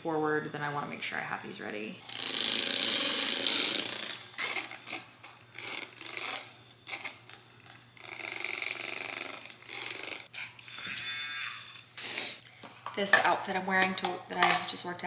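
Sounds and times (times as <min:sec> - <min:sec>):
milk frother whirring: 0:00.0 - 0:12.3.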